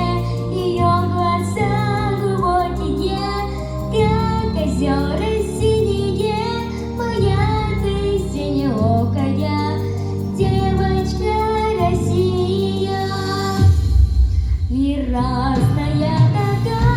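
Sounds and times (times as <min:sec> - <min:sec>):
girl singing: 0:00.0 - 0:13.8, 0:14.7 - 0:16.9
pop backing track: 0:00.0 - 0:16.9.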